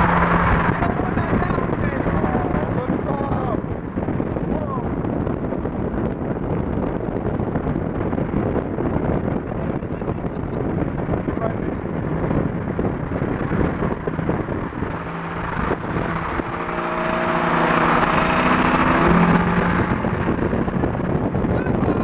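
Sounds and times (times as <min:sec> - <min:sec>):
car engine running: 0:00.0 - 0:22.0
pitched engine drone: 0:00.0 - 0:22.0
wind and road noise: 0:00.0 - 0:22.0.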